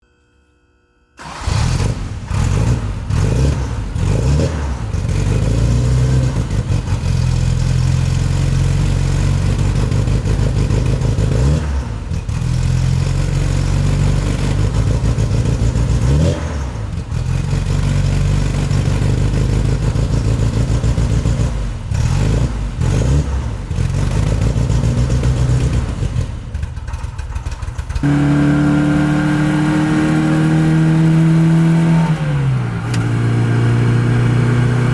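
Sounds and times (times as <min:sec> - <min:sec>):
car engine starting and revving: 0:01.2 - 0:34.9.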